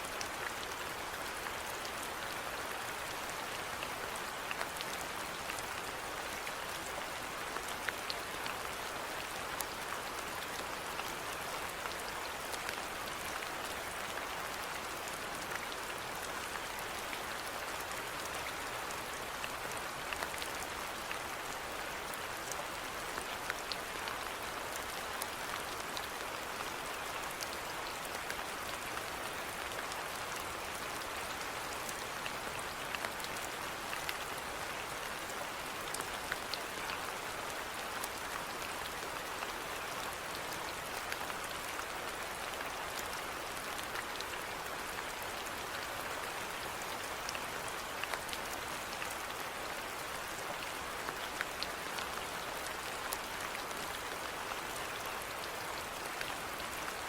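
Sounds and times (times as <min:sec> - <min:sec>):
steady rainfall hiss: 0:00.0 - 0:57.0
raindrops ticking on a surface: 0:00.1 - 0:57.0.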